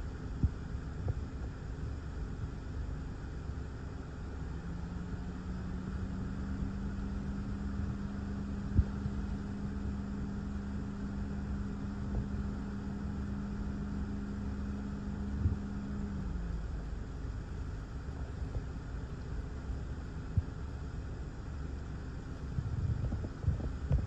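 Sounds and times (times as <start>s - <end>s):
low hum: 0.0s - 24.0s
wind and rain outside car: 0.0s - 24.0s.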